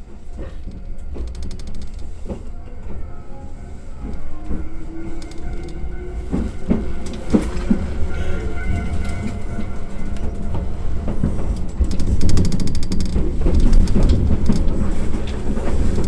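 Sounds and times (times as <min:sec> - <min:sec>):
train rumbling with faint whine: 0:00.0 - 0:16.0.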